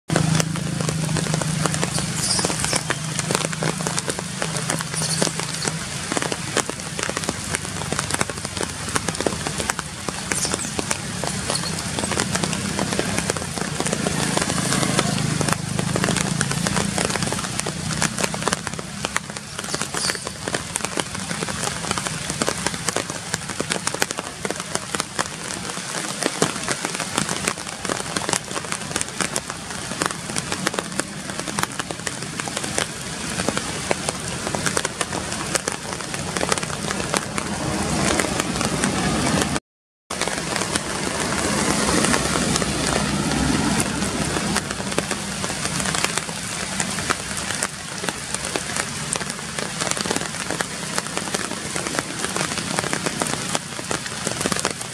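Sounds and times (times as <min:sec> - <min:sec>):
rain falling on leaves: 0:00.1 - 0:54.9.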